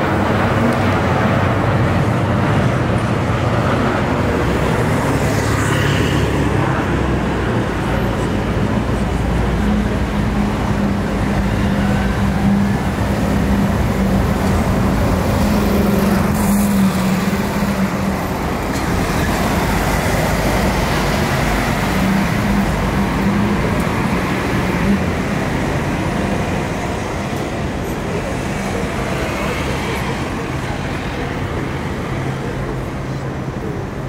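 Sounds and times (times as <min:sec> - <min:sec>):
cars and vans passing: 0:00.0 - 0:34.0
steady engine hum: 0:00.0 - 0:34.0.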